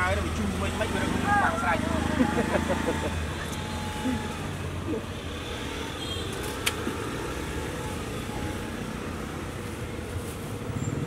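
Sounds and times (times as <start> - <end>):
street traffic engine hum: 0.0 - 11.0.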